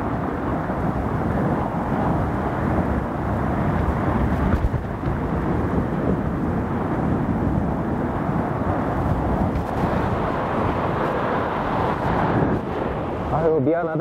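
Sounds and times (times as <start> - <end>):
surf breaking on rocky shore: 0.0 - 13.6.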